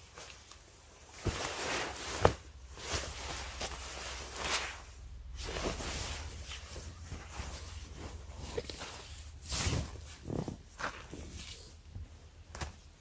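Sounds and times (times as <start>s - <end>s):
tent fabric rustling: 0.0s - 13.0s.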